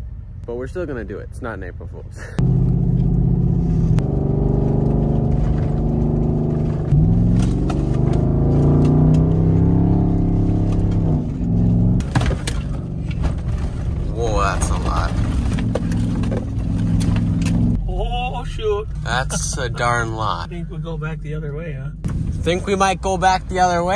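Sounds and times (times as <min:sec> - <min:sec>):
road noise: 0:00.0 - 0:23.9
car engine accelerating: 0:02.4 - 0:23.9.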